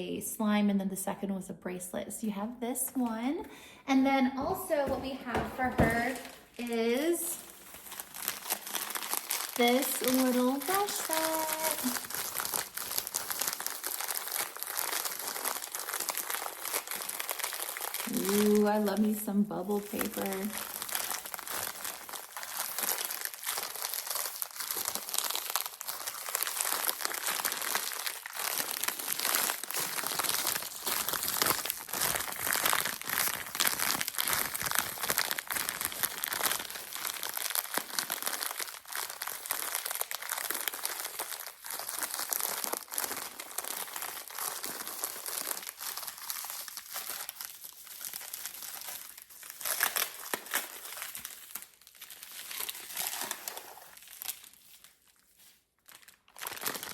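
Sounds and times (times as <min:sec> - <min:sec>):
bubble wrap crinkling: 0:04.4 - 0:56.9.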